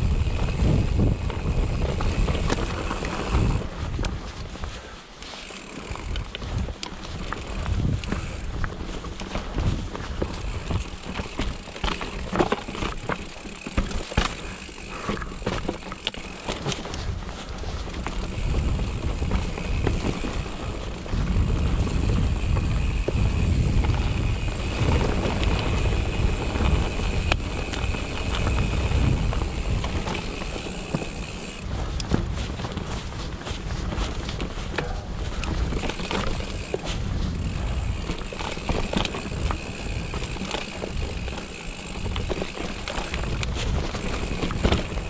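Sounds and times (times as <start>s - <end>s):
bike tyres rumbling over rock: 0.0s - 45.0s.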